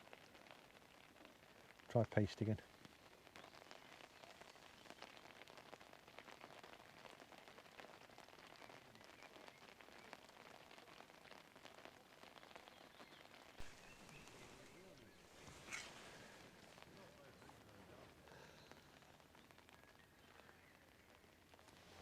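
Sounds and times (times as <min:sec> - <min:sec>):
faint rain pattering: 0:00.0 - 0:22.0.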